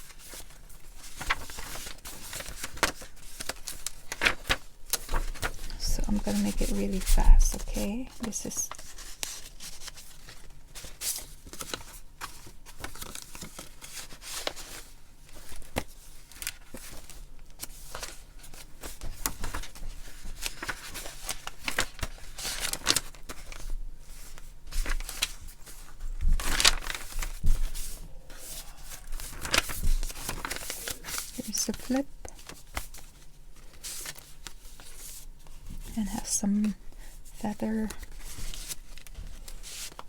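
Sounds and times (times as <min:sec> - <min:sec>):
paper rustling and crinkling: 0:00.0 - 0:40.0.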